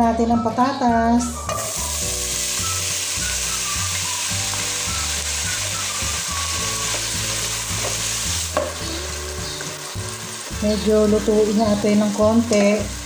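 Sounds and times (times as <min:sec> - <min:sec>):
potatoes sizzling in oil: 0:01.2 - 0:13.0.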